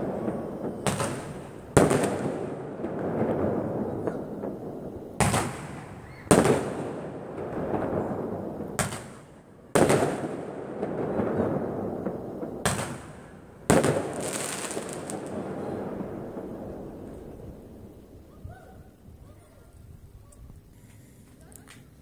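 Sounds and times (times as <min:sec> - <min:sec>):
fireworks bursting with echo: 0:00.0 - 0:19.2.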